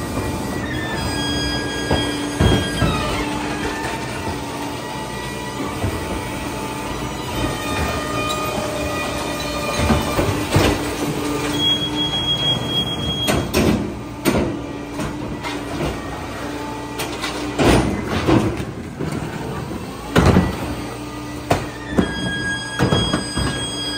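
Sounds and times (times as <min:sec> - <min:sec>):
carts banging into hopper: 0:00.0 - 0:23.9
garbage truck running: 0:00.0 - 0:23.9
hydraulic packer humming: 0:00.0 - 0:23.9.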